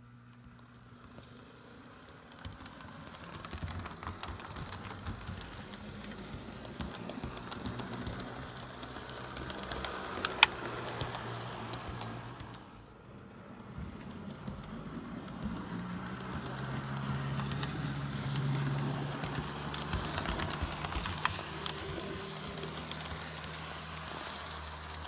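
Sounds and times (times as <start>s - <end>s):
model train wheels clicking on rails: 0.0s - 25.0s.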